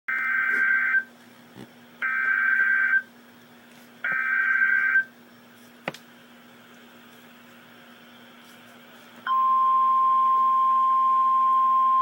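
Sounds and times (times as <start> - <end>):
faint steady hum: 0.1 - 12.0.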